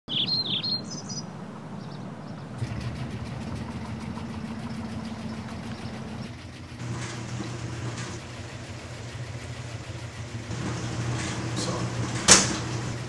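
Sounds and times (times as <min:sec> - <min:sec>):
laundry machines humming: 0:02.3 - 0:13.0.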